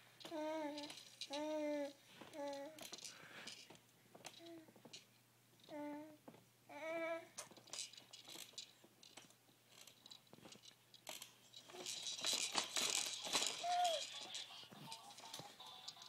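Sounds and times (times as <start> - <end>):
plastic toy rattling and clicking: 0.2 - 5.8, 7.4 - 16.0.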